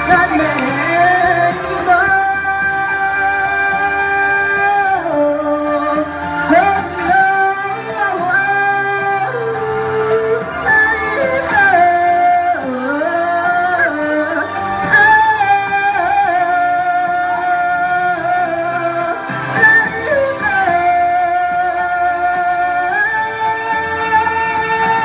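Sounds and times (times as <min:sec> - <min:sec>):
backing track music: 0:00.0 - 0:25.0
woman singing pop ballad: 0:00.0 - 0:25.0.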